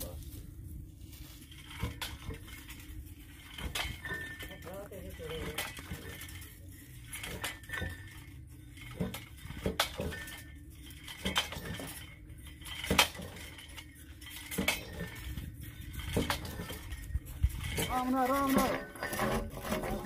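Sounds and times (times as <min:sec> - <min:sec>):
metallic clinks and knocks: 0:01.3 - 0:20.0.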